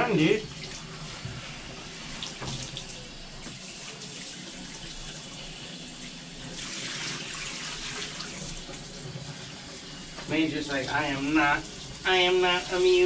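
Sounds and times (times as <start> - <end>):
water running into bathtub: 0.0 - 13.0.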